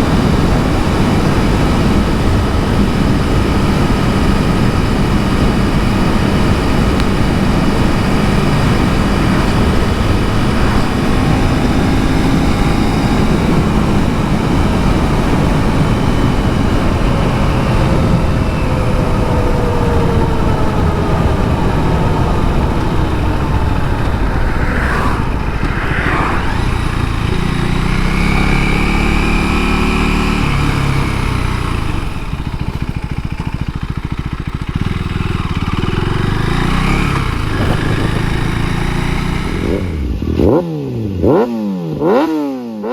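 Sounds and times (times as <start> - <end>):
wind noise: 0.0 - 33.0, 35.5 - 40.1
road noise: 0.0 - 42.2
motorcycle engine running: 0.0 - 42.9.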